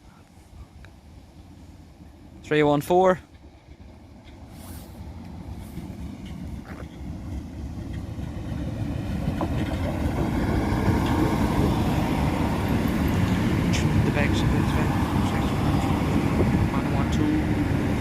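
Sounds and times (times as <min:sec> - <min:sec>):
diesel train rumble: 0:00.0 - 0:18.0.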